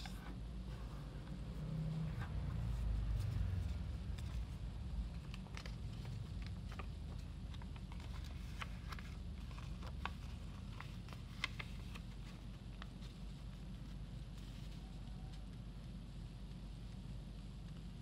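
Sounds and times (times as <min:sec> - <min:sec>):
paper crackling as folded: 0:00.0 - 0:15.8
low hum: 0:00.0 - 0:18.0.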